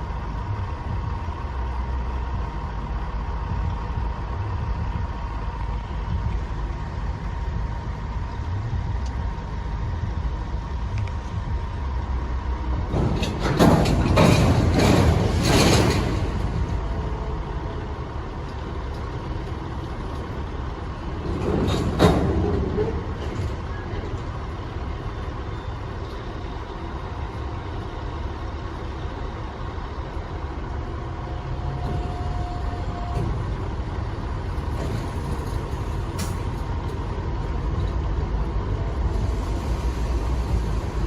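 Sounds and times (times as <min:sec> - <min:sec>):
diesel locomotive rumbling: 0:00.0 - 0:41.0.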